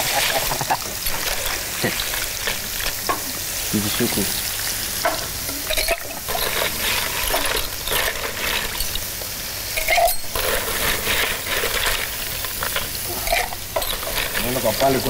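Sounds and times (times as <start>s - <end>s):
utensils and dishes clinking: 0.0s - 4.4s, 5.0s - 15.0s
food sizzling in hot oil: 0.0s - 15.0s.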